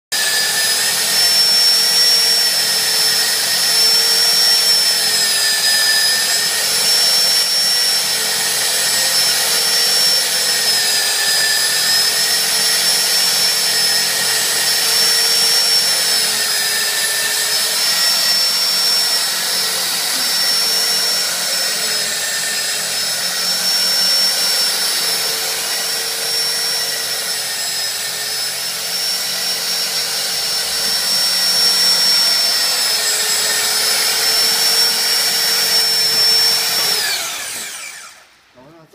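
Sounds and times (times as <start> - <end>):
cutting tool cutting metal pipe: 0.1 - 38.3.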